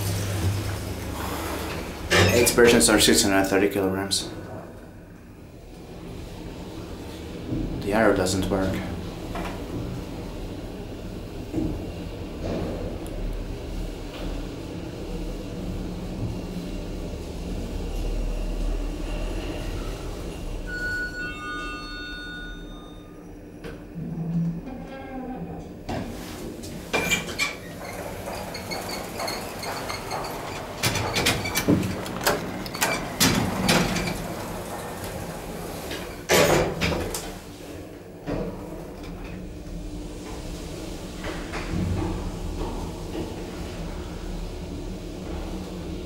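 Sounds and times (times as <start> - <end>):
elevator running rumble: 0.0 - 46.0.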